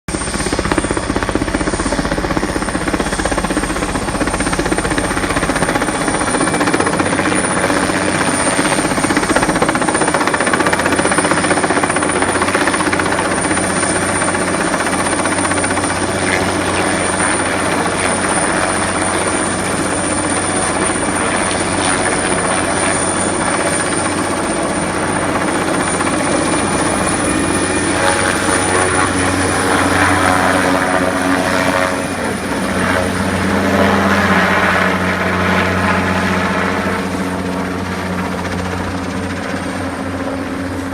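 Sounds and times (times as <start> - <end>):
helicopter rotor and engine: 0.1 - 40.9.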